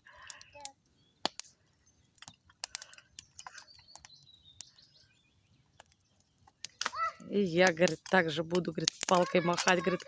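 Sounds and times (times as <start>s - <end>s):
campfire clicks and snaps: 0.0s - 10.0s.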